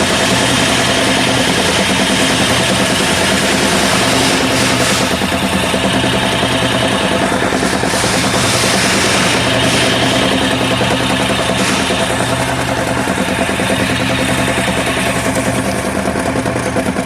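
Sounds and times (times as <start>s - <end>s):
car engine idling with knock: 0.0s - 17.0s.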